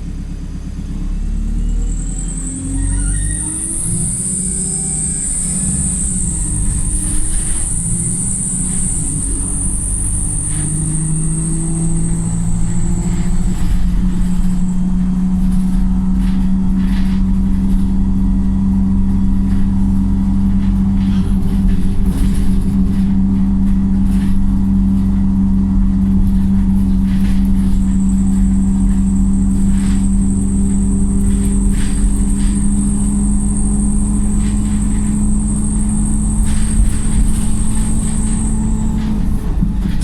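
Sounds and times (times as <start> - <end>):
bus engine pulling hard: 0.0 - 40.0
short rattles: 5.4 - 40.0.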